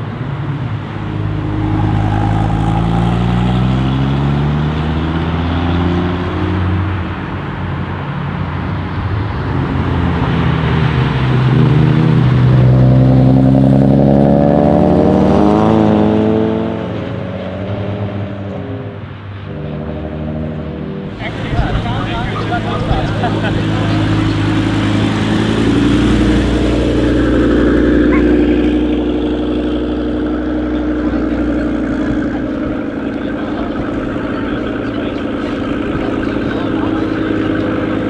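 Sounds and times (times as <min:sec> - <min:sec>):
loud car engine accelerating: 0:00.0 - 0:38.0.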